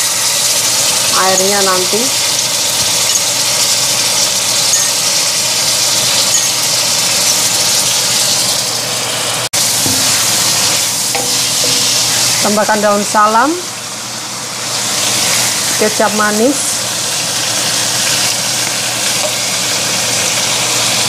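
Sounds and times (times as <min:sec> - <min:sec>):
beef sizzling in a wok: 0:00.0 - 0:21.0.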